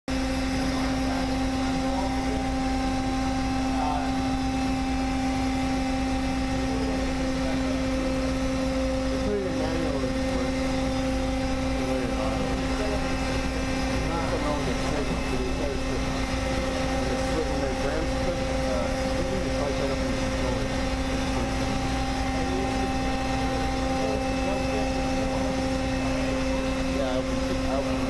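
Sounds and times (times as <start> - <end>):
machinery hum: 0.1 - 28.0
faint voices: 0.4 - 4.7, 6.2 - 28.0.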